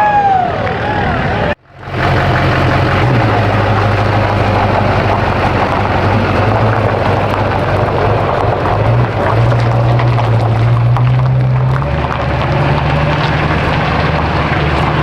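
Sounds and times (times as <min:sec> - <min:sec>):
dense rushing noise: 0:00.0 - 0:15.0
diesel truck engine running: 0:01.0 - 0:15.0.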